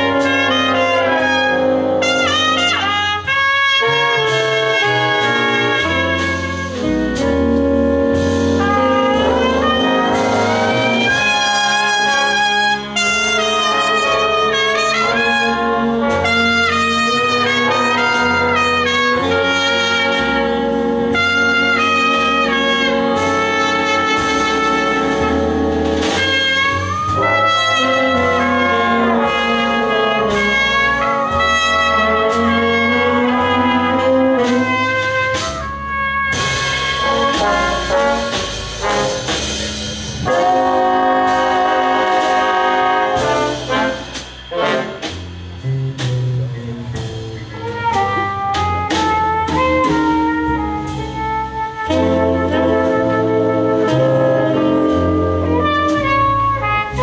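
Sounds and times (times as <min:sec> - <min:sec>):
big band jazz: 0:00.0 - 0:57.0.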